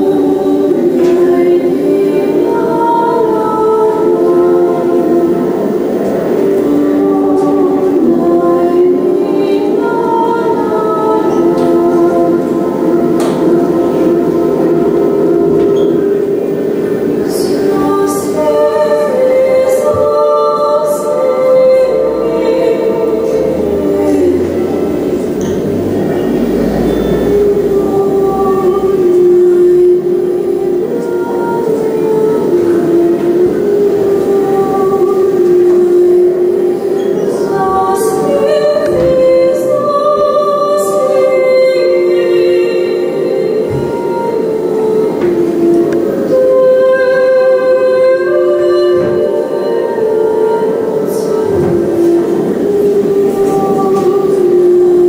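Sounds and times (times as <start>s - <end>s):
slow wordless voice-like music: 0.0s - 55.0s.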